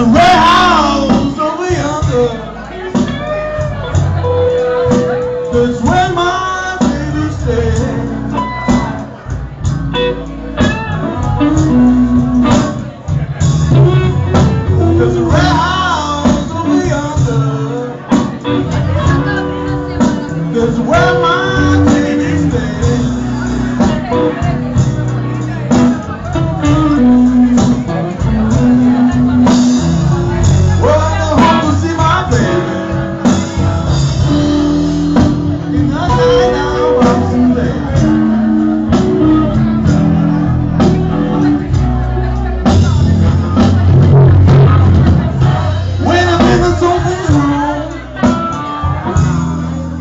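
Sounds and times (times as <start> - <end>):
electric guitar lead: 0.0 - 50.0
live rock band playing: 0.0 - 50.0.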